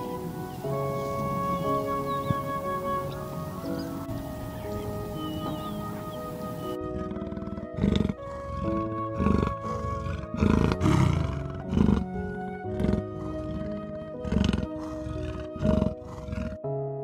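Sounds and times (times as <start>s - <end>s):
leopard rasping call: 0.0s - 16.6s
soft background music: 0.0s - 17.0s.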